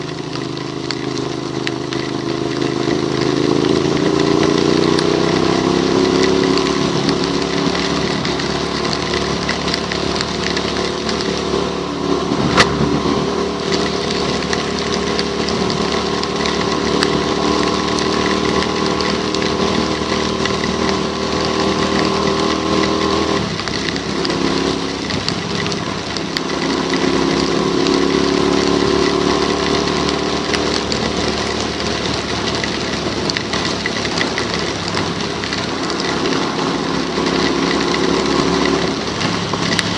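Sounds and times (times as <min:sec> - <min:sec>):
motorcycle engine running: 0:00.0 - 0:39.9
rain and water spray hiss: 0:00.0 - 0:39.9.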